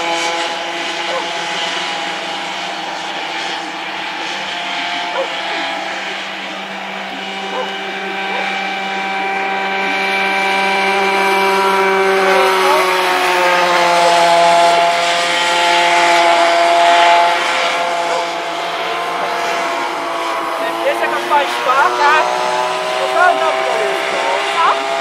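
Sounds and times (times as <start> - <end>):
kart engines buzzing: 0.0 - 25.0.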